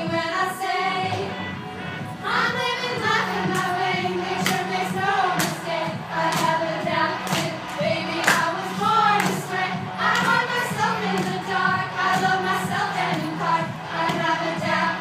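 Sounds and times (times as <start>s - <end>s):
music with steady beat: 0.0s - 15.0s
voices singing together: 0.0s - 15.0s.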